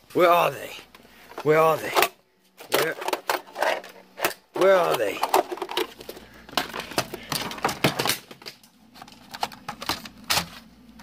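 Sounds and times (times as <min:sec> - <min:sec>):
plastic objects clattering: 0:01.2 - 0:11.0.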